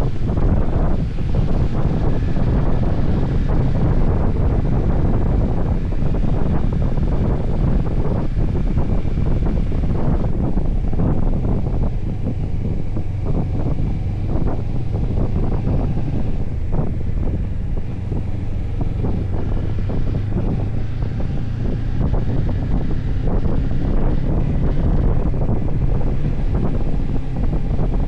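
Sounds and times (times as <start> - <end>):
motorcycle engine humming: 0.0 - 28.0
wind buffeting microphone: 0.0 - 28.0.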